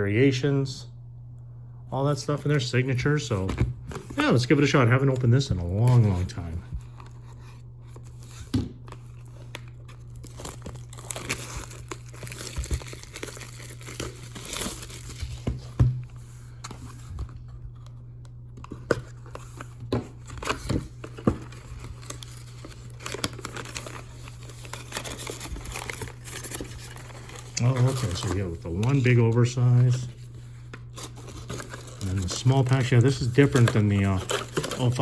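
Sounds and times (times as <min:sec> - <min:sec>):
low hum: 0:00.0 - 0:35.0
cardboard rustling: 0:03.3 - 0:17.9, 0:18.6 - 0:35.0
wrapping tearing and crinkling: 0:03.9 - 0:15.7, 0:18.6 - 0:35.0.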